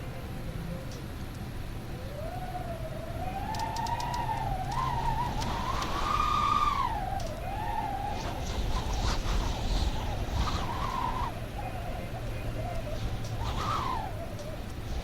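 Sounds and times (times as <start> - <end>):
wind howling and whistling: 0.0 - 15.0.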